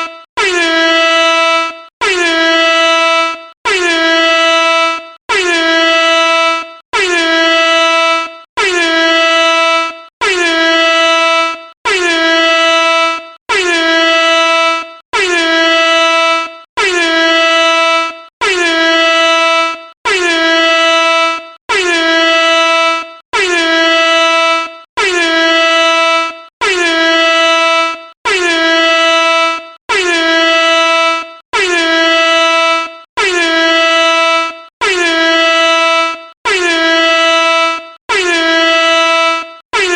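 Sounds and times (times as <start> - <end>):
air horn blasts: 0.0 - 39.9.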